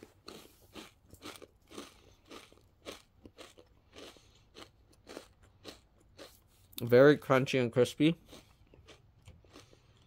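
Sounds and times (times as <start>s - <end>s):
person chewing crunchy cookie: 0.0s - 10.0s.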